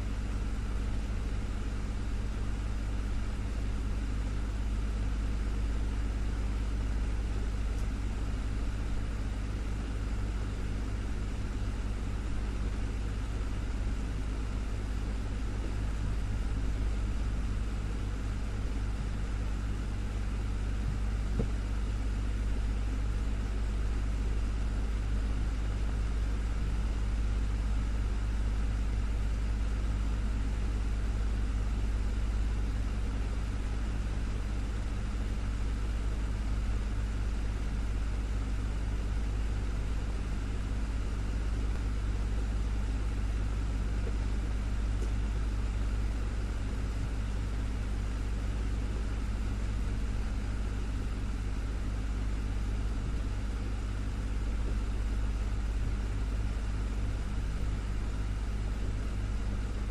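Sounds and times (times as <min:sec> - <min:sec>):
electric fan motor hum: 0:00.0 - 0:59.9.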